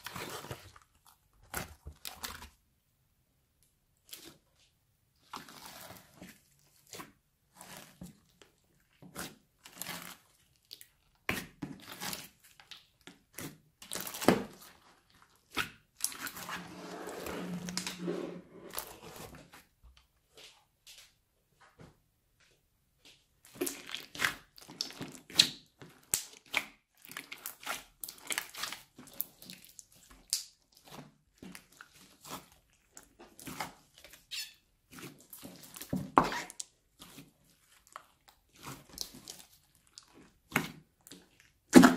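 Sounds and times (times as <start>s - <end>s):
hands squishing slime: 0.0s - 2.7s, 4.0s - 16.7s, 23.4s - 41.9s.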